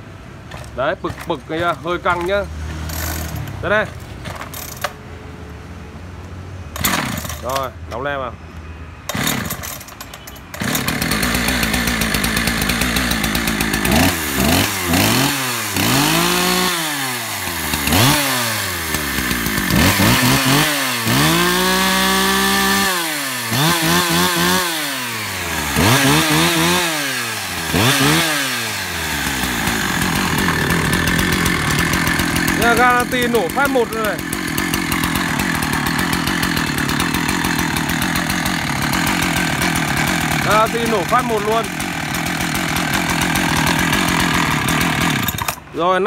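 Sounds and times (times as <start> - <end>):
chainsaw idling and revving: 0.4 - 5.0, 6.8 - 7.8, 9.1 - 46.0.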